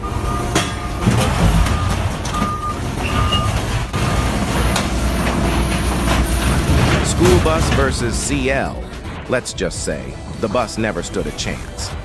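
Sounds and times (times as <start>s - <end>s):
reversing alarm beeping: 0.0s - 11.7s
diesel engine running: 0.0s - 12.0s
knocks and clanks: 0.0s - 12.0s.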